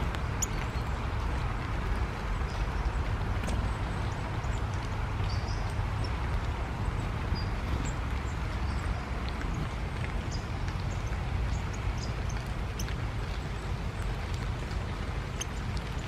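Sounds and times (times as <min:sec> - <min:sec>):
steady rain patter: 0:00.0 - 0:16.0.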